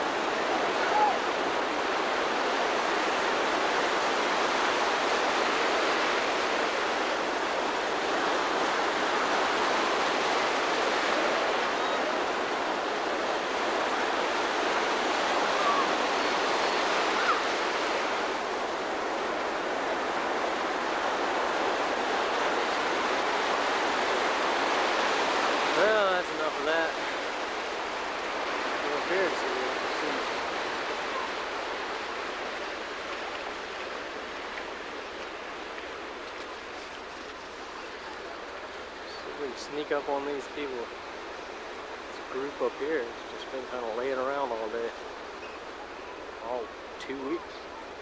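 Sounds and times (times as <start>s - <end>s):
ocean surf breaking: 0.0s - 48.0s.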